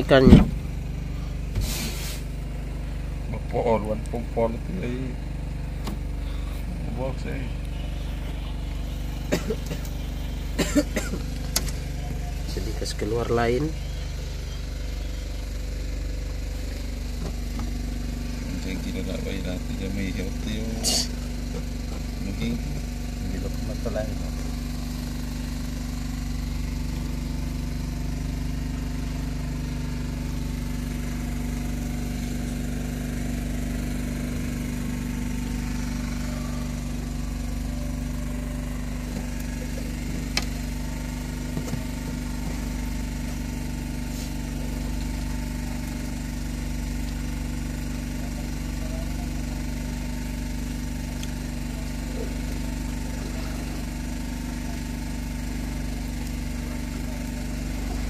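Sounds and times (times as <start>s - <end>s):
boat engine humming: 0.0s - 58.0s.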